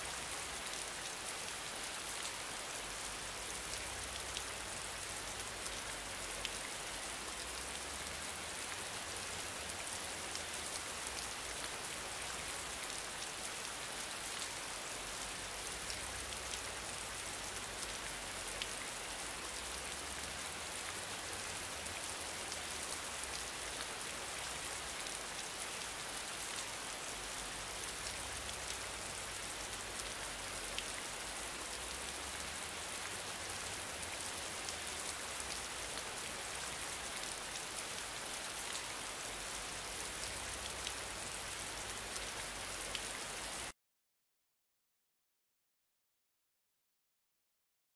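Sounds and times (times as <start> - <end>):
rain-like hiss: 0.0 - 43.7.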